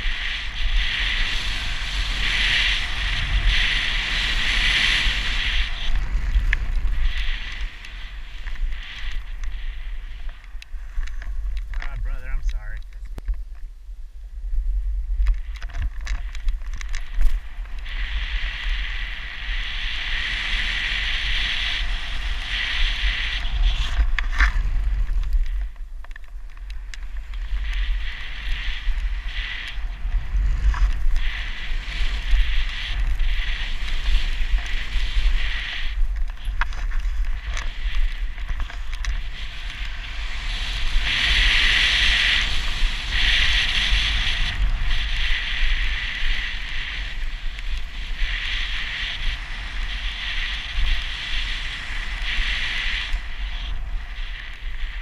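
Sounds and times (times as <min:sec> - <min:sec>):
snowboard hissing over snow: 0:00.0 - 0:11.0, 0:17.3 - 0:25.2, 0:27.2 - 0:55.0
wind buffeting microphone: 0:00.0 - 0:55.0.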